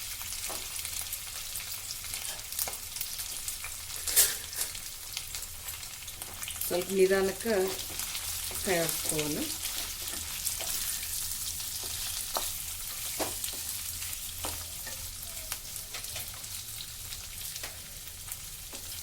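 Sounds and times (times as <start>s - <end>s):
potatoes sizzling in oil: 0.0s - 19.0s.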